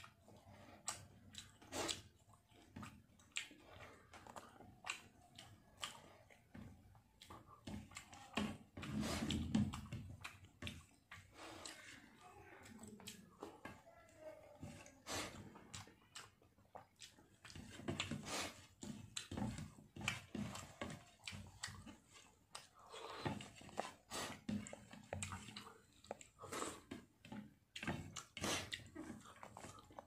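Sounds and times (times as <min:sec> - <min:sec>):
chewing and mouth smacks: 0:00.0 - 0:14.2, 0:14.8 - 0:30.0.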